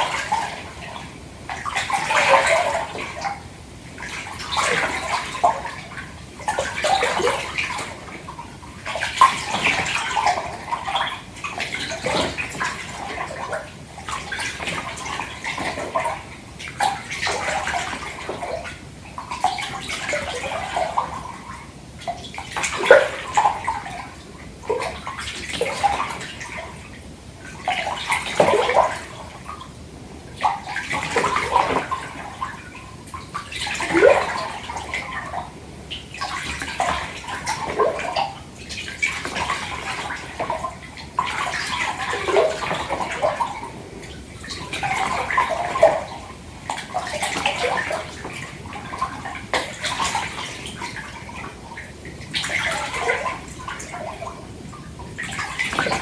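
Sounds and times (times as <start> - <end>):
bath water sloshing: 0.0 - 56.0.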